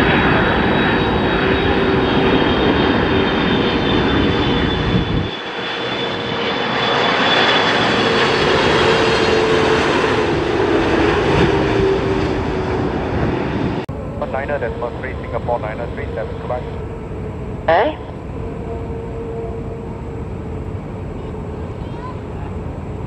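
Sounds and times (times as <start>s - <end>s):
jet engines running loudly: 0.0s - 23.0s.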